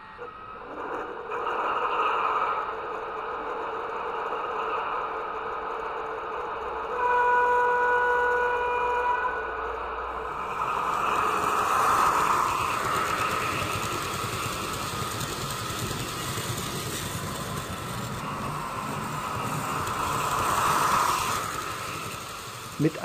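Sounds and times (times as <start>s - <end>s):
model train motor whirring: 4.4s - 23.0s.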